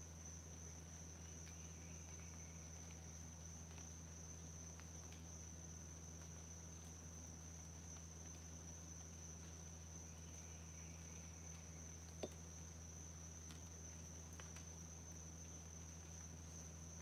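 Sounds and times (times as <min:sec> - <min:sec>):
high-pitched insect chorus: 0:00.0 - 0:17.0
low steady hum: 0:00.0 - 0:17.0.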